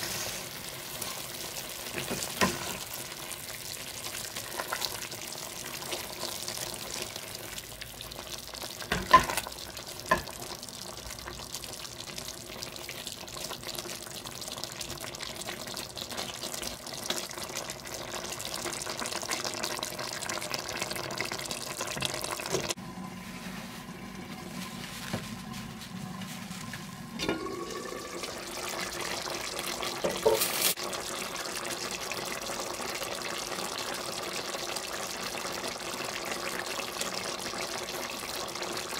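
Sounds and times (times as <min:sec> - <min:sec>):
water pouring into a pot: 0:00.0 - 0:22.8, 0:27.1 - 0:38.9.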